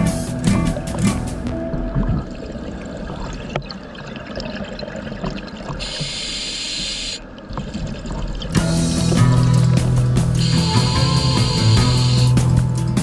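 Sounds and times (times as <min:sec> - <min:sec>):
underwater bubbling: 0:01.4 - 0:12.2.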